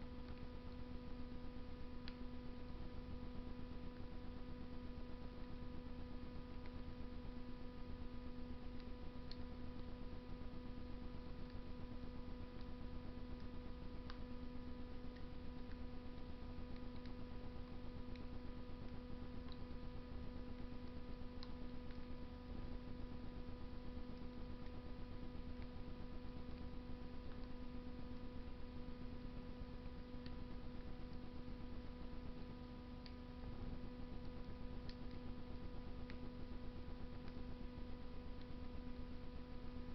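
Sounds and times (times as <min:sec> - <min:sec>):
constant hum: 0:00.0 - 0:39.9.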